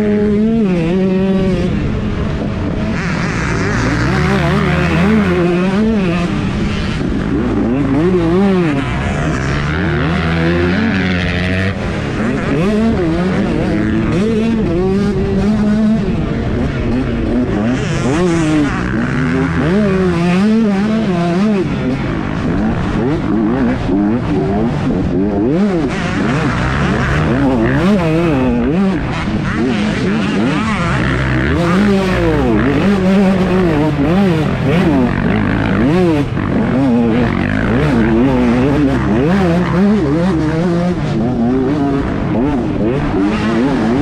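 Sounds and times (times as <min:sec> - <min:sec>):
motocross bike engines revving: 0:00.0 - 0:44.0.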